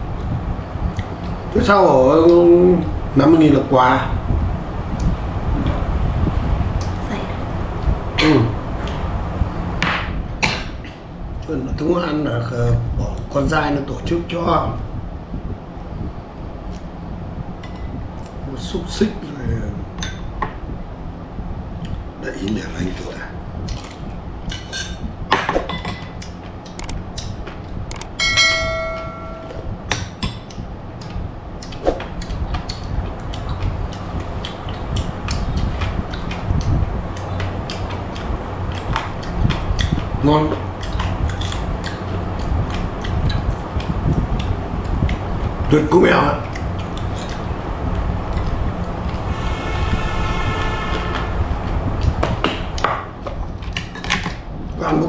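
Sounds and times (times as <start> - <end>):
steady rumbling: 0.0 - 55.0.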